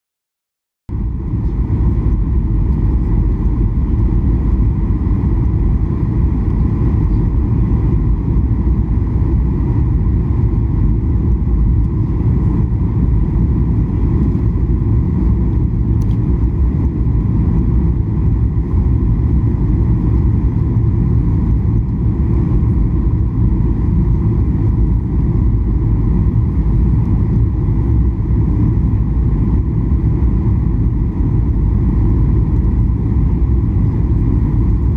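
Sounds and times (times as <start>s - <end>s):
airplane cabin engine rush: 0.9s - 34.9s.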